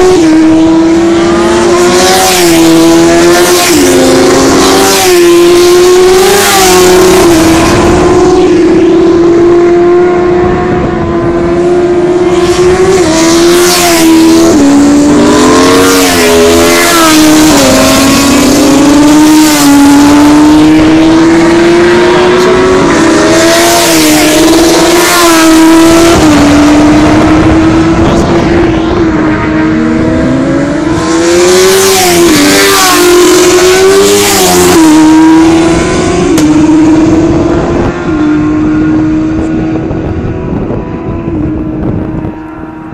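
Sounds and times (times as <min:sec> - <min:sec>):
racing motorcycles passing: 0:00.0 - 0:42.9.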